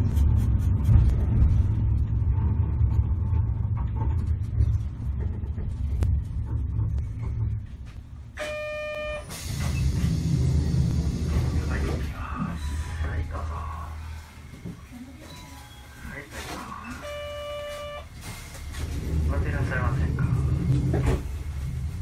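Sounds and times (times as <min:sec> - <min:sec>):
tram running rumble: 0:00.0 - 0:08.4, 0:09.3 - 0:14.9, 0:18.1 - 0:22.0.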